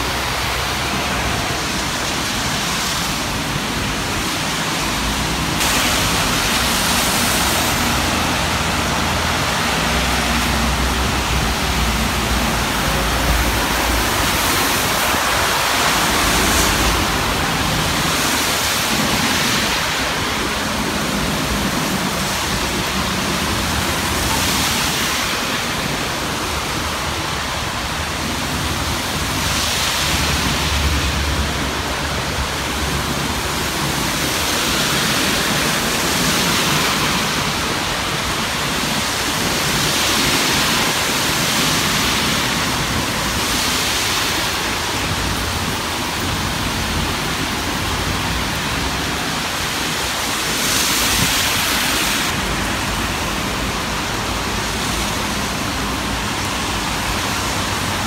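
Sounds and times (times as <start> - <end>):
traffic rush: 0.0 - 58.0.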